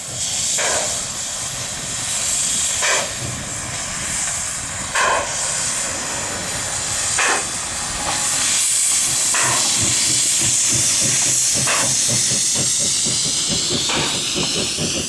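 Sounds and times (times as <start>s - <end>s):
loud steam hiss: 0.0s - 15.0s
steam locomotive exhaust chuff: 0.0s - 15.0s.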